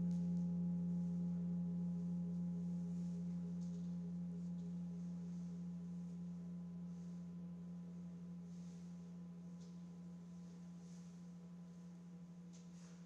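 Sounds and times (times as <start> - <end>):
low pulsing musical drone: 0.0 - 13.0.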